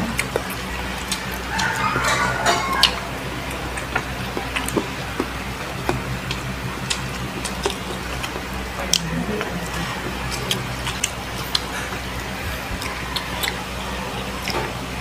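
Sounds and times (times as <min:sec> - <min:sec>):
fingers picking at food: 0:00.0 - 0:14.8
chewing and lip smacks: 0:00.0 - 0:15.0
steady low hum: 0:00.0 - 0:15.0.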